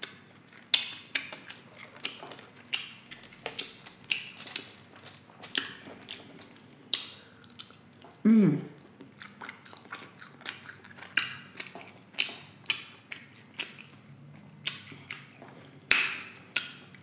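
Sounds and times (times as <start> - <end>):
chewing and mouth smacking: 0.0 - 17.0.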